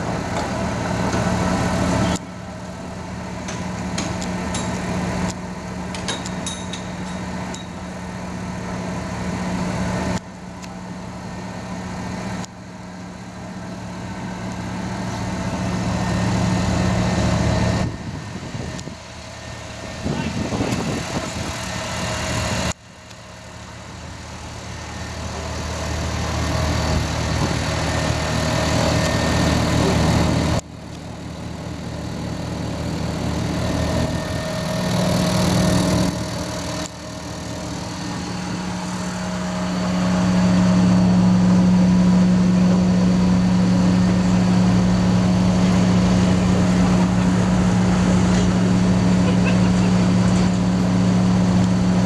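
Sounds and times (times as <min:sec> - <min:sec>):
truck diesel engines running: 0:00.0 - 0:52.0.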